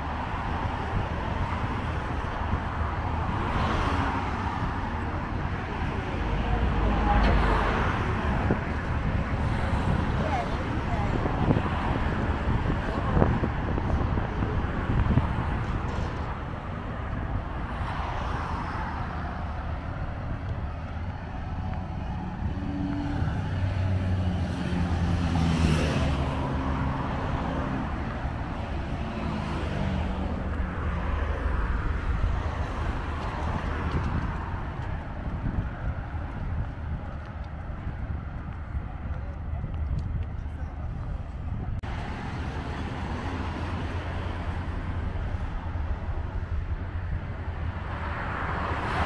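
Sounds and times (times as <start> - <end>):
cars driving past: 0.0 - 49.0.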